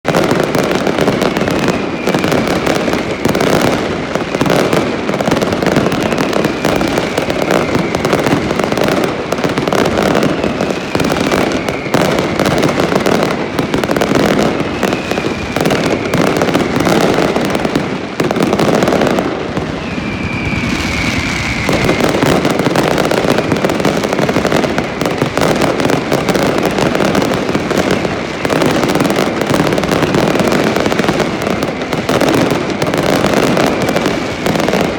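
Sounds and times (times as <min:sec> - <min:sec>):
fireworks bangs and crackling: 0:00.0 - 0:34.9
whistling rockets: 0:00.1 - 0:34.9.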